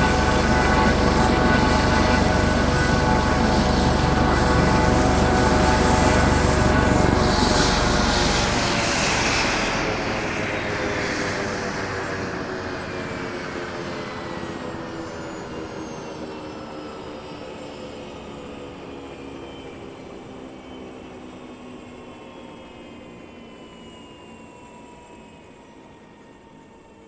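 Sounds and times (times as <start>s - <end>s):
helicopter engine tones: 0.0s - 22.6s
helicopter rotor rumble: 0.0s - 26.9s.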